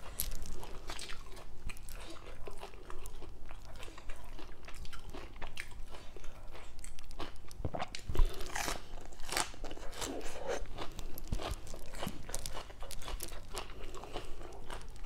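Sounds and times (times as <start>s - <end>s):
crunching and chewing lettuce: 0.0s - 15.0s.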